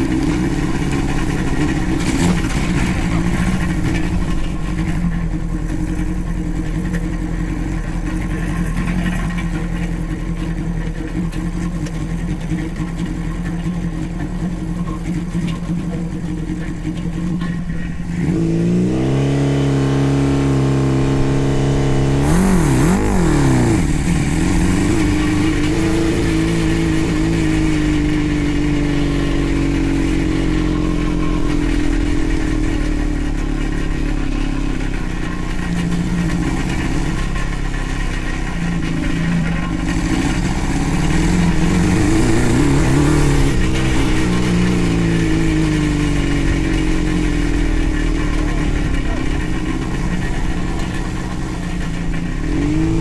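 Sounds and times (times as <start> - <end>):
kart engine running under load: 0.0 - 53.0.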